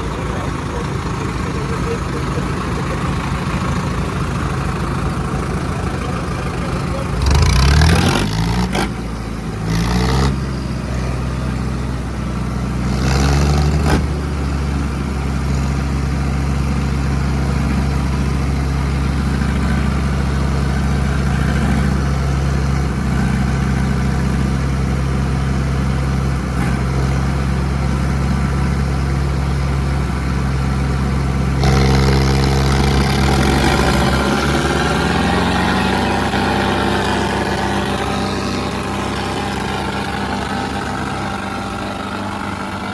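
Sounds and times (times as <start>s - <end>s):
tractor diesel engines labouring: 0.0s - 42.9s.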